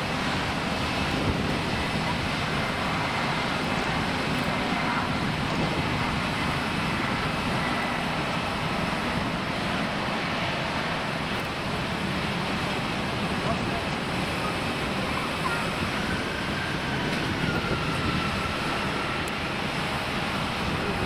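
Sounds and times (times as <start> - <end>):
jet engine rush with whine: 0.0 - 21.0.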